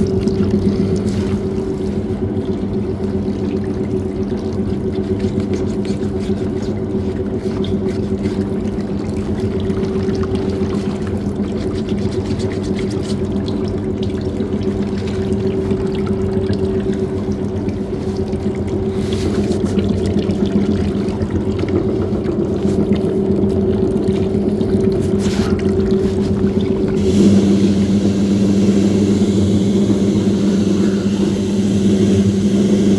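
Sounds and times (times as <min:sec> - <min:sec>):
washing machine motor hum: 0:00.0 - 0:32.9
water sloshing in drum: 0:00.0 - 0:32.9.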